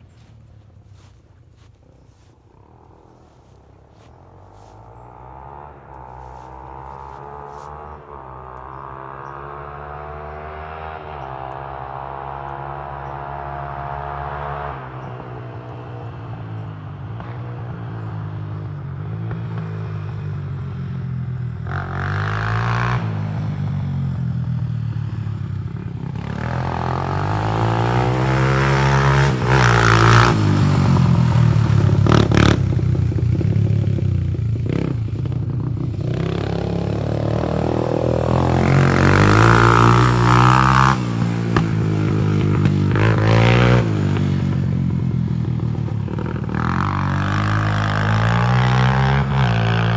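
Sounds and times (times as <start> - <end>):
quad bike engine revving: 2.6 - 49.9.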